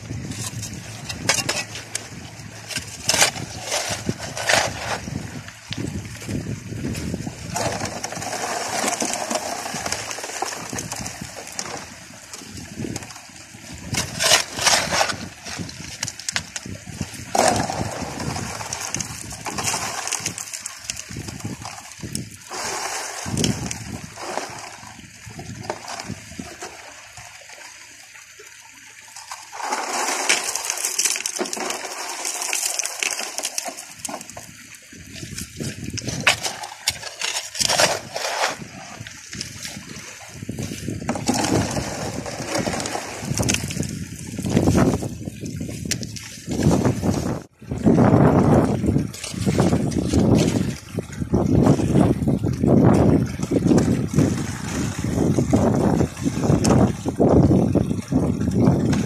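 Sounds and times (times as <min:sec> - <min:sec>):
gravel and stones rattling: 0:00.0 - 0:26.9, 0:29.0 - 0:59.0
water running through sluice: 0:00.0 - 0:59.0.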